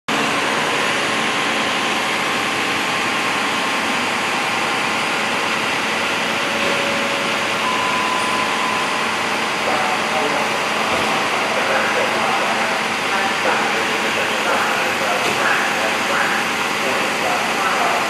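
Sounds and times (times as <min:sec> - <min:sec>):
fire engine running: 0:00.1 - 0:18.0.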